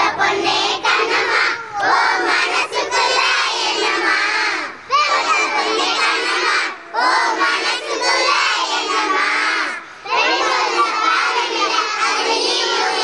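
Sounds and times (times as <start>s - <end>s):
children chanting in unison: 0.0s - 13.0s.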